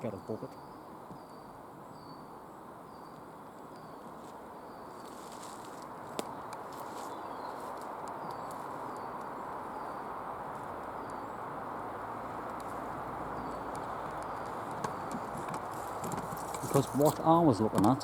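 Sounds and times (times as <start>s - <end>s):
small bird calling: 0.0s - 18.0s.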